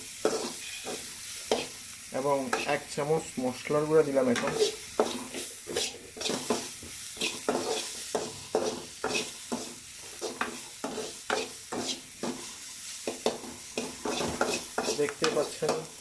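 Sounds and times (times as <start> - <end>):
food sizzling in oil: 0.0 - 16.0
spoon scraping a pan: 0.2 - 1.8, 4.3 - 15.9.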